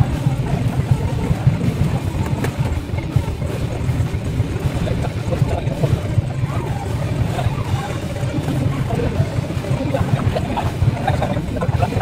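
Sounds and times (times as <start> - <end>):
bass-heavy background music: 0.0 - 12.0.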